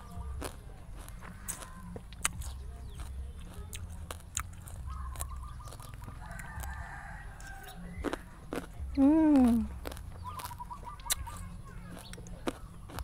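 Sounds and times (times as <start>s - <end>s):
chewing clicks and smacks: 0.0s - 13.0s.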